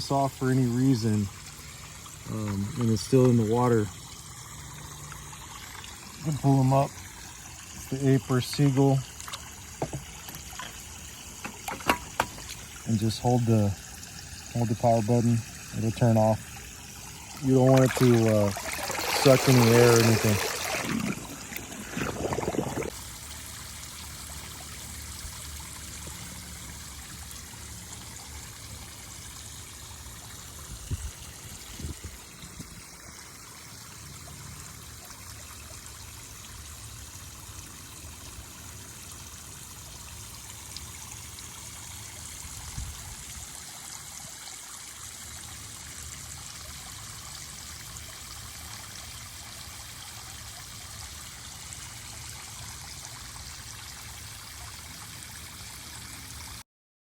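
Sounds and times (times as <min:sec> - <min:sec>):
running water trickling: 0:00.0 - 0:56.6.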